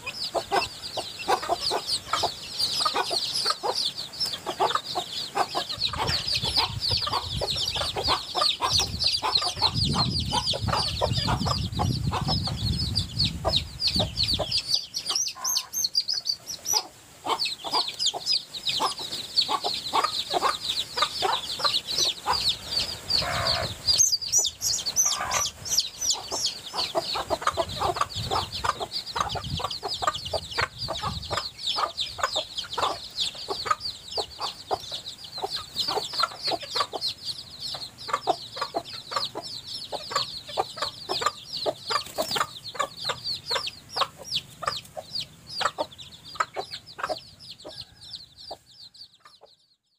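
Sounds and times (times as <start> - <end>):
hen clucking: 0.0 - 49.7
chicks peeping: 0.0 - 49.9.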